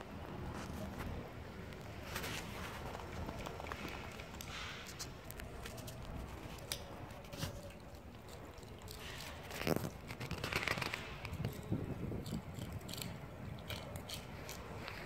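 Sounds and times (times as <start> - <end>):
cat chewing and licking: 1.7 - 15.0.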